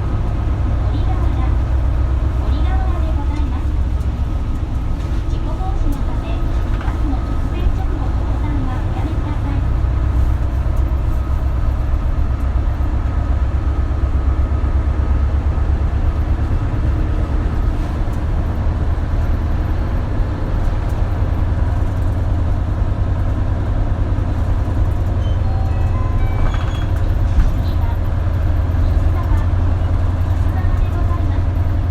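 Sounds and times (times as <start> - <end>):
bus engine and road noise: 0.0 - 31.9.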